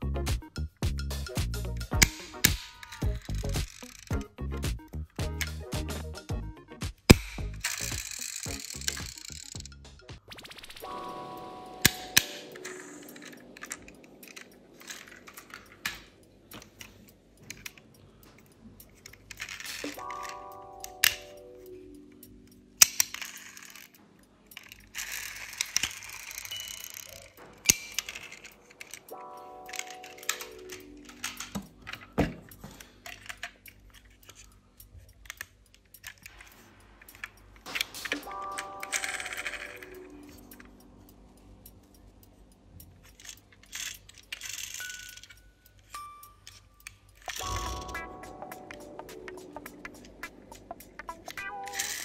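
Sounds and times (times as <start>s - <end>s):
small clicks and taps of toy cars: 2.0s - 4.2s, 7.0s - 9.8s, 11.9s - 21.4s, 22.2s - 40.8s, 41.6s - 47.8s, 49.6s - 52.0s.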